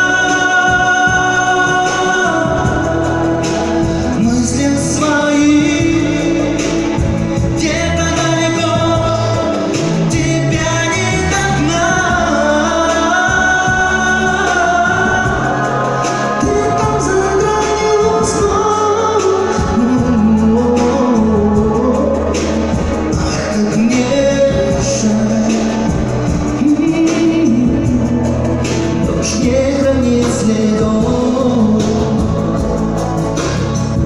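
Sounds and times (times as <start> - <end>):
pop song with vocals: 0.0 - 34.0.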